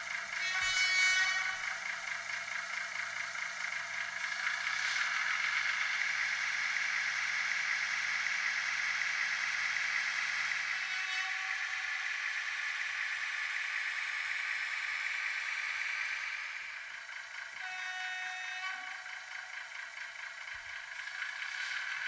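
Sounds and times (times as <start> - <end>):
model diesel engine sound: 0.0 - 22.0.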